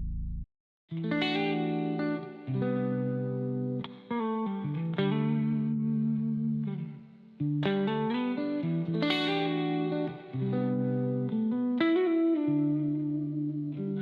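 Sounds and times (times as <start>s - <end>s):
electric guitar plucked notes: 0.0s - 14.0s.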